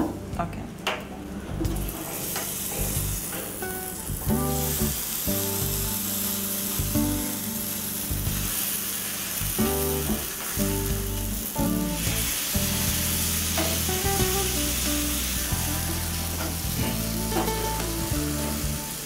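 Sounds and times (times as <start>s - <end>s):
food sizzling in a pan: 1.8s - 19.0s
background music: 2.8s - 19.0s.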